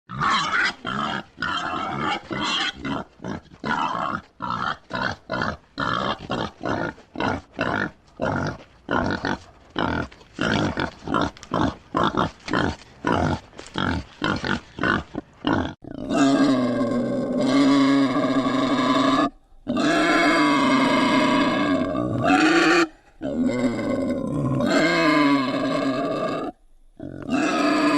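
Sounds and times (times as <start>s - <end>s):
wild boar grunting: 0.1s - 27.9s
wild boar squealing: 0.1s - 27.9s.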